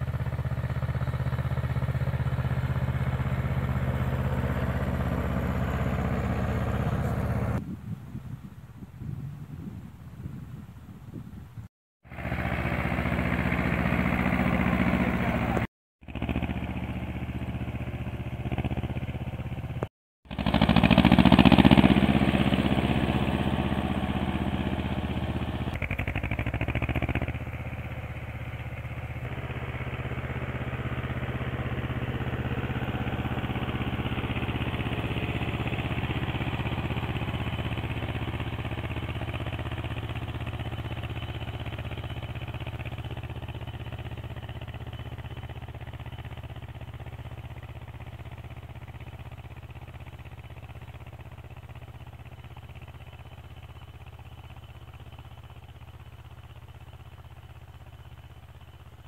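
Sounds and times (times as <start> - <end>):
tractor diesel engine under load: 0.0 - 7.6, 12.0 - 59.0.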